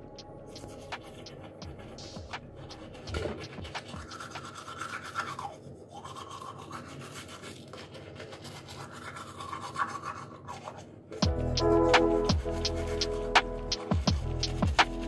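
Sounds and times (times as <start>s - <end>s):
toothbrush scrubbing teeth: 0.5s - 15.0s.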